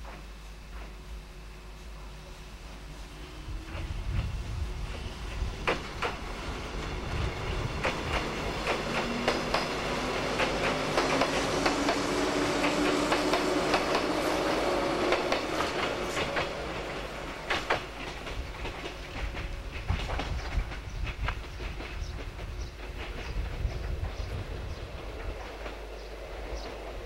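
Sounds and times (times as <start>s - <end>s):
train rumble: 0.0s - 27.0s
train wheels clicking over rail joints: 3.6s - 27.0s.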